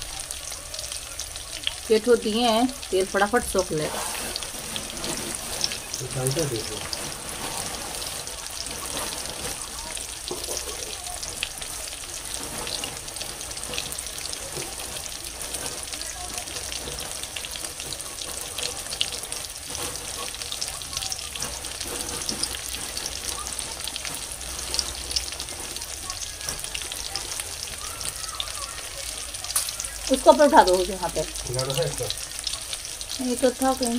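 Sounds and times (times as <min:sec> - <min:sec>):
food frying in hot oil: 0:00.0 - 0:33.9.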